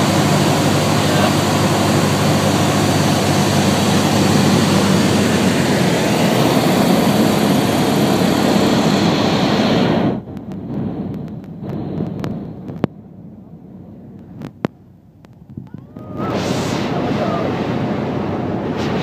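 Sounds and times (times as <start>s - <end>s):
small plane engine droning: 0.0s - 19.0s.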